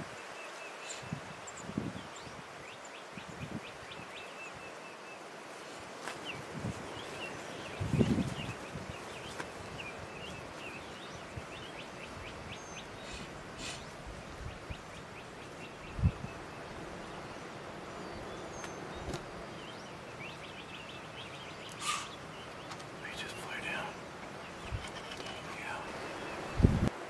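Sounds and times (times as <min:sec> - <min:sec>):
songbirds chirping and singing: 0:00.0 - 0:26.9.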